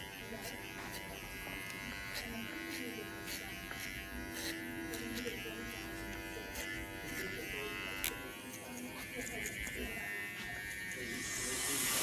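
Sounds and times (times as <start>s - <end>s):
hair clippers buzzing: 0.0s - 12.0s.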